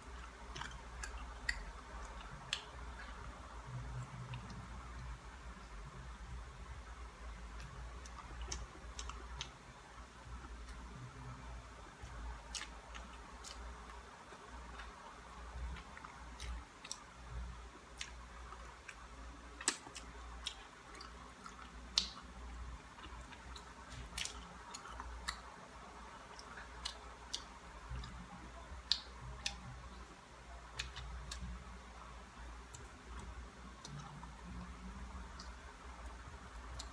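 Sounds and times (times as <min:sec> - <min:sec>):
low steady hum: 0:00.0 - 0:36.9
person chewing and lip smacking: 0:00.1 - 0:05.7, 0:07.6 - 0:09.7, 0:11.9 - 0:30.0, 0:30.6 - 0:31.7, 0:32.6 - 0:36.9.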